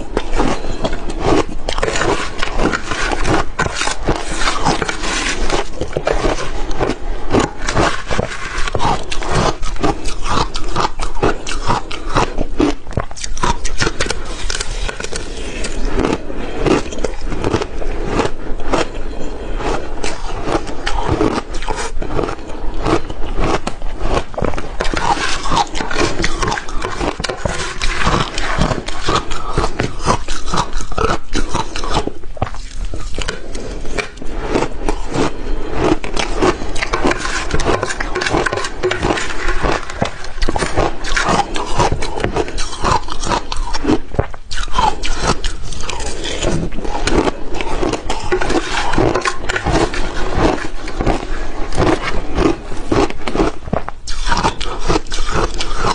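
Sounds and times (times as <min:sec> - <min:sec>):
metal spoon scraping glass bowl: 0:00.0 - 0:44.0, 0:44.6 - 0:55.9
chewing crushed ice: 0:00.0 - 0:55.9.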